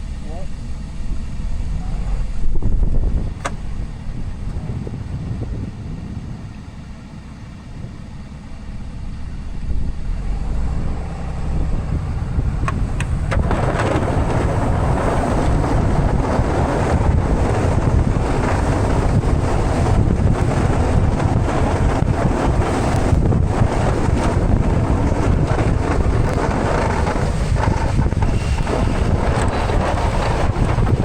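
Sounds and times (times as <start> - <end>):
diesel truck low rumble: 0.0 - 31.0
wind on microphone: 1.0 - 31.0.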